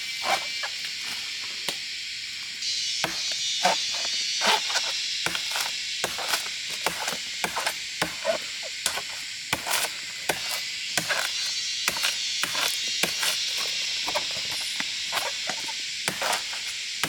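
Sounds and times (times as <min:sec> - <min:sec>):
high insect drone: 0:00.0 - 0:17.0
wood being chopped: 0:03.0 - 0:16.8.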